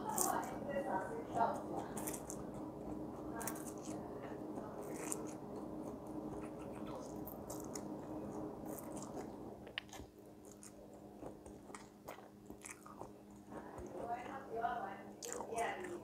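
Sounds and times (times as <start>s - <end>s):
low hum: 0.0s - 16.0s
slurping and chewing: 1.8s - 14.1s, 15.2s - 16.0s.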